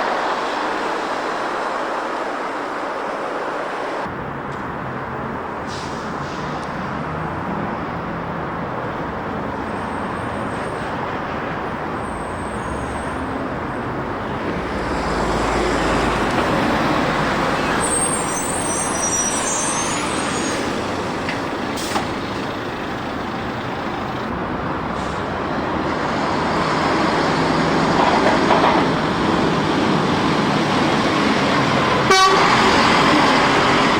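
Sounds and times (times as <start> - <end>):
heavy trucks passing: 0.0 - 33.9.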